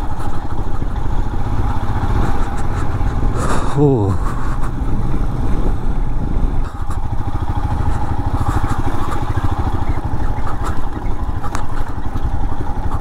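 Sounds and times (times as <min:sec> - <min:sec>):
motorcycle engine and road rumble: 0:00.0 - 0:13.0
motorcycle rattling: 0:00.0 - 0:13.0.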